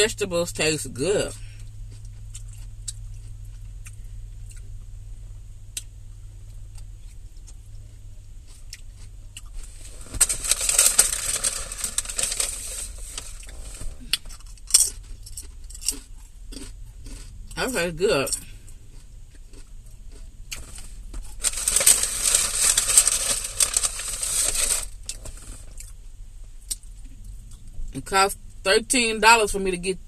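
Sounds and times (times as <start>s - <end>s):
steady low hum: 0.0s - 30.0s
chewing crisp salad: 1.4s - 26.0s.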